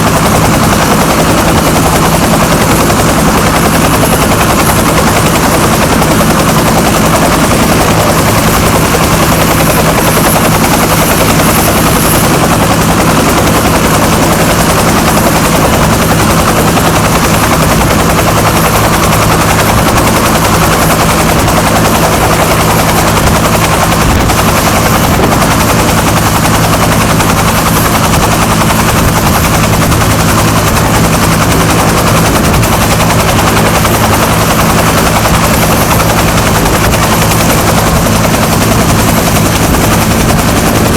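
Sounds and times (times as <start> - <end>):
helicopter rotor chop: 0.0 - 40.9
helicopter turbine whine: 0.0 - 40.9.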